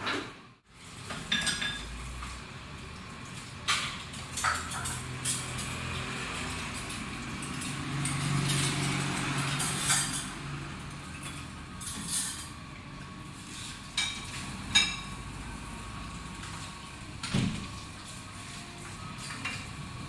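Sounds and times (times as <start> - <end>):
restaurant low hum: 0.0 - 20.0.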